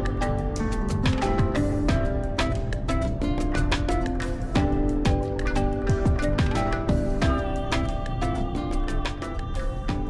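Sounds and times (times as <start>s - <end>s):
held melody notes: 0.0s - 10.0s
regular drum hits: 0.0s - 10.0s.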